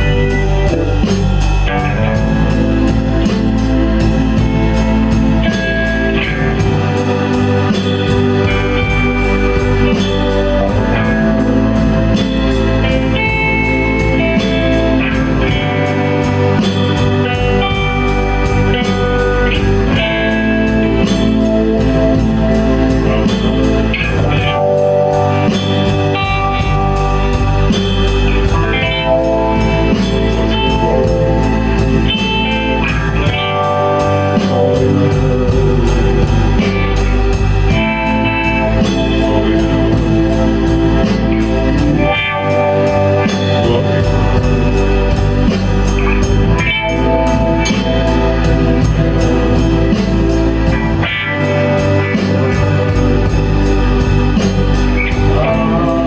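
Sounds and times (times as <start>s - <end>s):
live blues-rock band: 0.0s - 56.0s.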